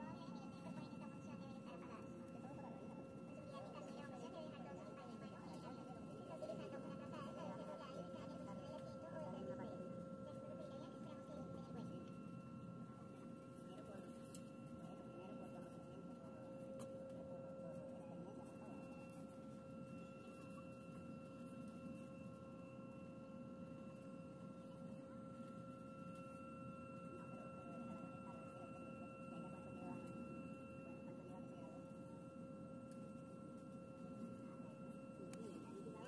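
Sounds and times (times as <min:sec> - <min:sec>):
jet engine whine: 0:05.7 - 0:36.0.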